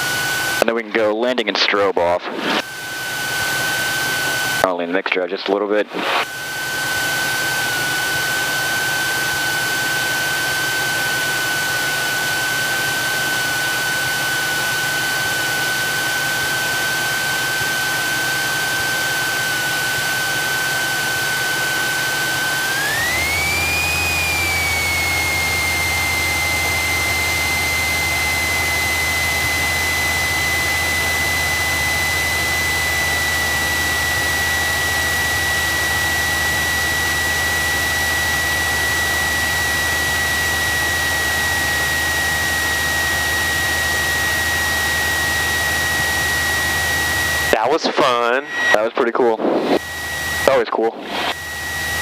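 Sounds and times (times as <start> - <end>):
aircraft engine and propeller drone: 2.6 - 52.0.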